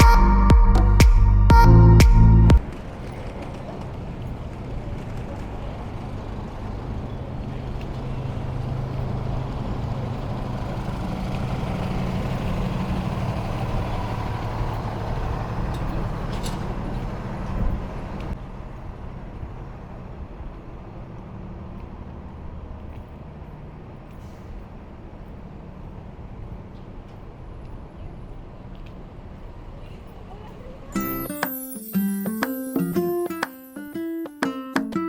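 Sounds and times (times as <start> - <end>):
city street traffic: 0.0 - 33.6
heavy vehicle engine running: 1.7 - 30.2.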